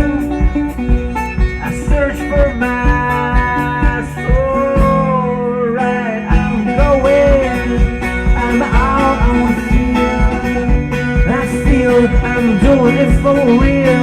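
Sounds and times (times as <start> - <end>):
bending melody line: 0.0 - 14.0
guitar: 0.0 - 14.0.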